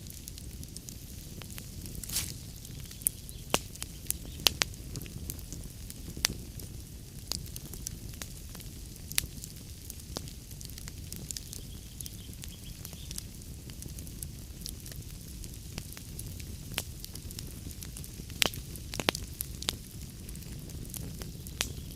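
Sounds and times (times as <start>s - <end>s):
fire popping and snapping: 0.0s - 21.9s
low rumble of burning logs: 0.0s - 21.9s.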